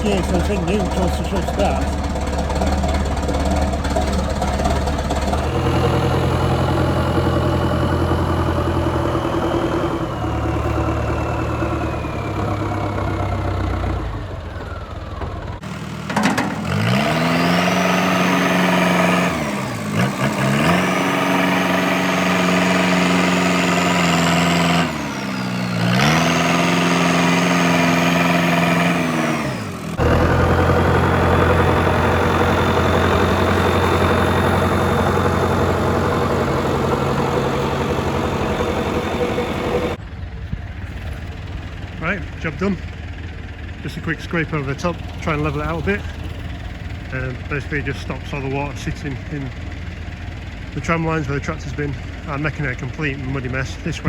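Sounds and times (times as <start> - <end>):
high engine whine: 0.0 - 54.0
tractor diesel engine working: 0.0 - 54.0.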